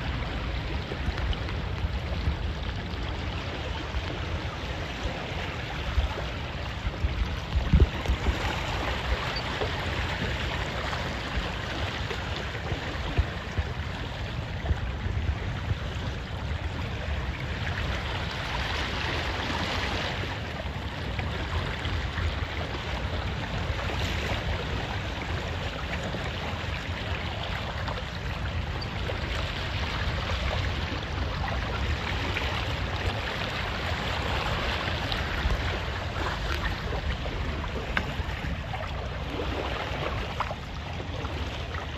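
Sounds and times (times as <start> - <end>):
water rushing along boat hull: 0.0 - 41.9.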